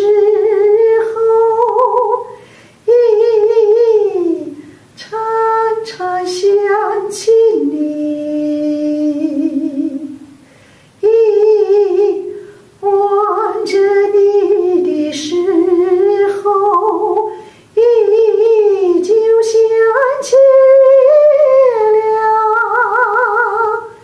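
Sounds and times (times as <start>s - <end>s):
woman singing unaccompanied: 0.0s - 10.4s, 11.0s - 24.0s.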